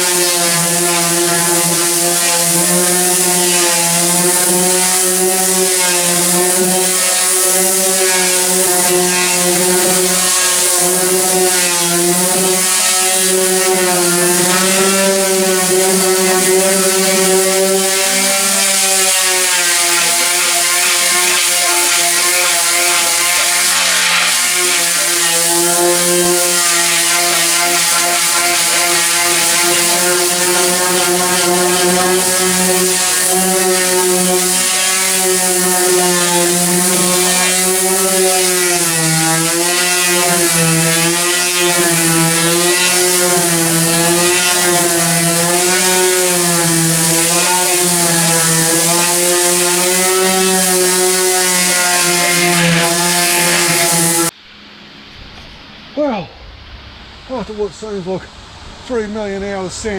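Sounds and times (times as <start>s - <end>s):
abrasive sanding hiss: 0.0s - 54.4s
electric power sander motor: 0.0s - 54.4s.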